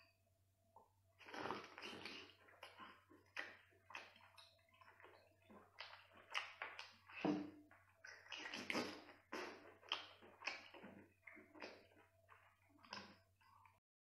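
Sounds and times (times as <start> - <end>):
faint steady hum: 0.0 - 13.8
person chewing with mouth clicks: 1.2 - 13.8.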